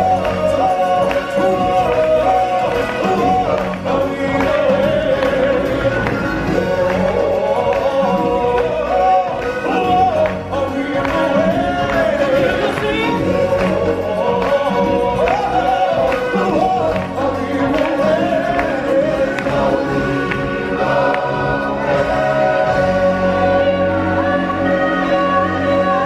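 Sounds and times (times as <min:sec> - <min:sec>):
full band playing: 0:00.0 - 0:26.0
people singing: 0:00.0 - 0:26.0.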